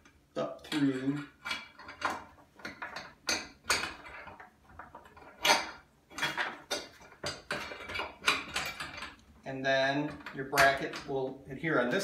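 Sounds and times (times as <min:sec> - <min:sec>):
metal parts clinking and knocking: 0:00.0 - 0:09.3, 0:10.0 - 0:11.2.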